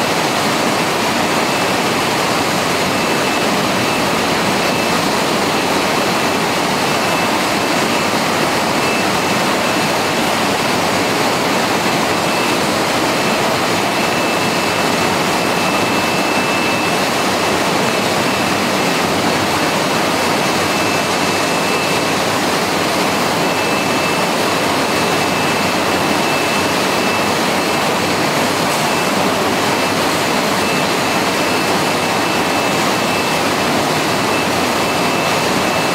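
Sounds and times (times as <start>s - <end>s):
processing line machinery: 0.0s - 35.9s.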